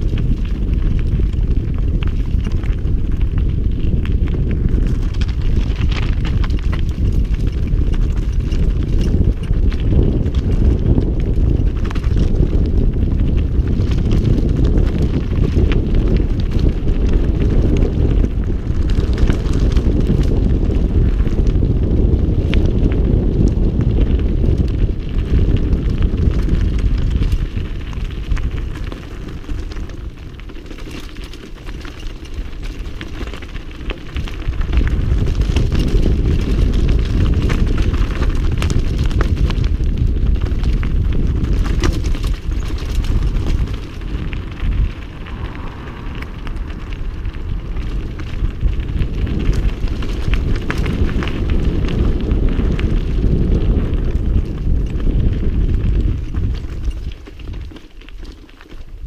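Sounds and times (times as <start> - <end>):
bike rattling: 0.0 - 59.0
tyres crunching over stones: 0.0 - 59.0
wind rumble on microphone: 0.0 - 59.0.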